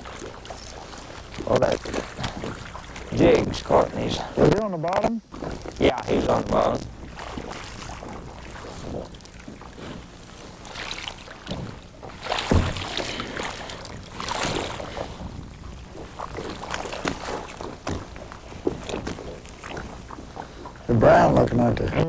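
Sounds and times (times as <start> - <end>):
knocks and rustles in boat: 0.0 - 22.0.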